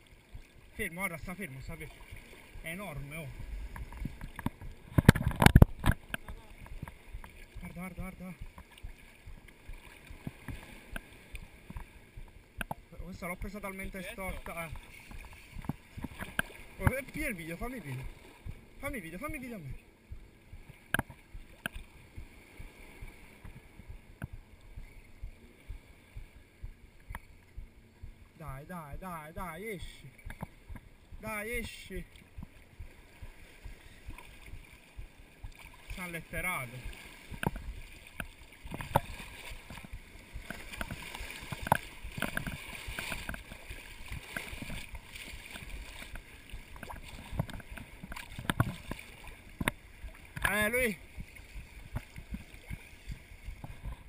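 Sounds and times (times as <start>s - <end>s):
small waves lapping on rocks: 0.0s - 20.0s, 28.4s - 54.0s
hiss of sea and breeze: 0.0s - 54.0s
water splashes and knocks: 0.0s - 54.0s.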